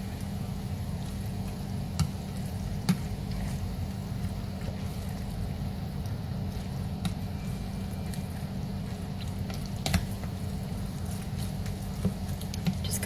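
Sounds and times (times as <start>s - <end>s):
steady low hum: 0.0s - 13.0s
spoon stirring thick food: 0.1s - 12.8s.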